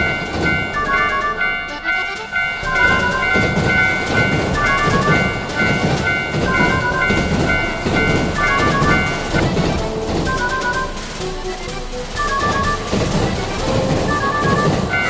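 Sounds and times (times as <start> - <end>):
train rumbling: 0.0 - 15.0
tune of high held notes: 0.0 - 15.0.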